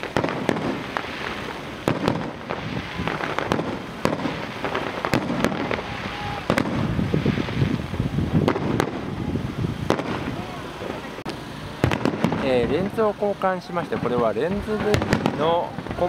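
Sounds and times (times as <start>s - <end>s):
continuous rumble: 0.0s - 16.0s
firework shells bursting: 0.0s - 16.0s.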